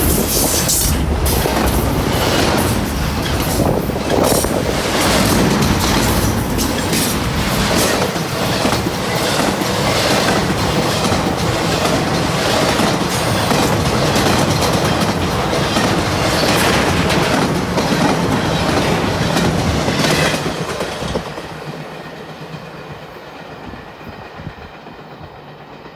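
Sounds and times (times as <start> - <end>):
wheels clacking over rail joints: 0.0 - 22.8
freight train cars rolling past: 0.0 - 25.9.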